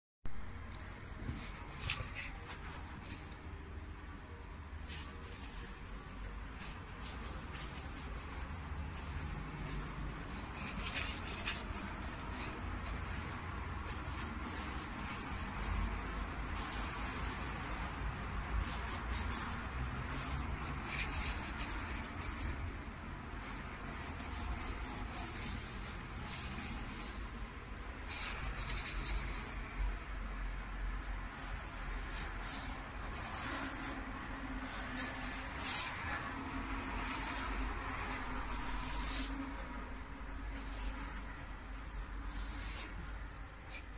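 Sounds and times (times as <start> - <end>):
feather scratching on paper: 0.7 - 30.2, 31.0 - 43.9.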